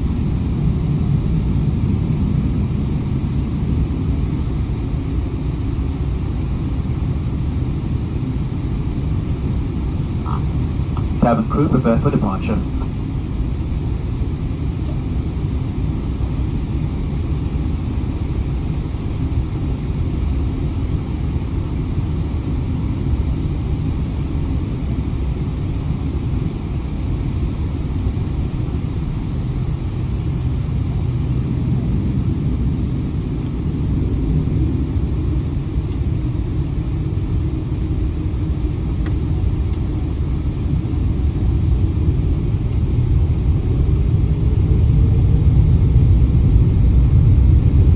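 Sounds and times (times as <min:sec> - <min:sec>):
jet engine rumble in cabin: 0:00.0 - 0:47.9.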